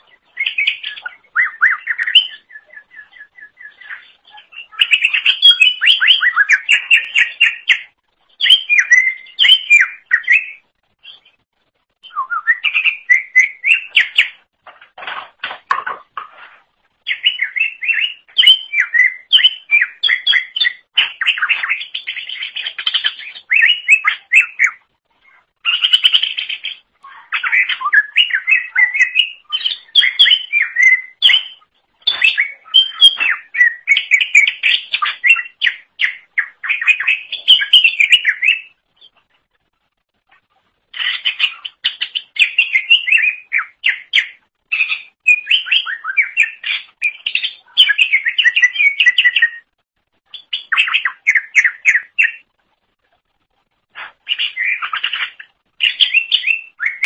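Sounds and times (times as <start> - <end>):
bird singing chirps and trills: 0.0 - 11.4, 12.0 - 14.5, 17.0 - 39.2, 40.9 - 52.5, 54.2 - 57.0.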